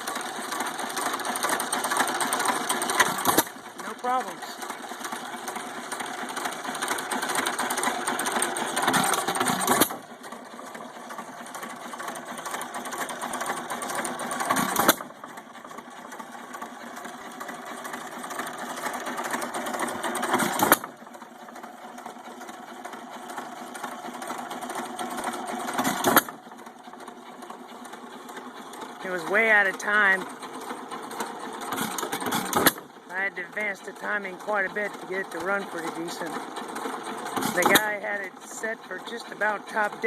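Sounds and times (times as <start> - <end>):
stationary engine clattering: 0.0 - 40.0.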